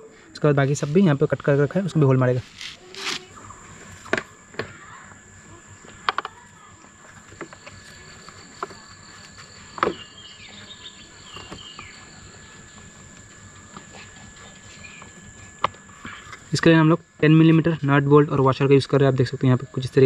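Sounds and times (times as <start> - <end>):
high-pitched insect buzz: 0.0 - 20.0.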